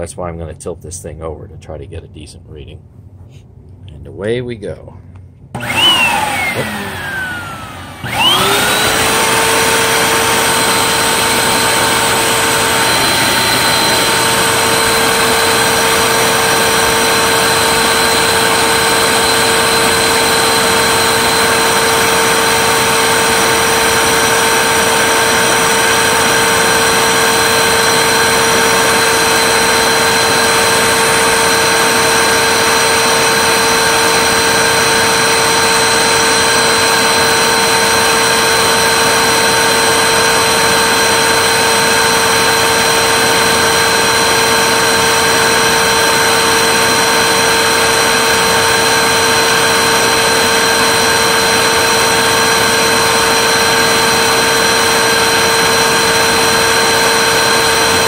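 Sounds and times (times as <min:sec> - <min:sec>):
vacuum cleaner running: 0:05.6 - 0:58.0.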